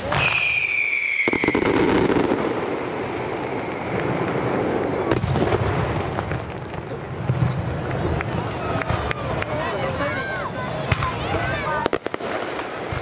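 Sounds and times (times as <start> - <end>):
firework bangs: 0.0 - 13.0
firework crackling: 0.0 - 13.0
whistling firework: 0.0 - 13.0.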